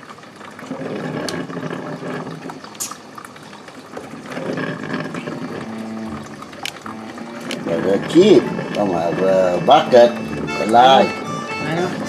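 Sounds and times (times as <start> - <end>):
coffee maker water bubbling: 0.0 - 12.0.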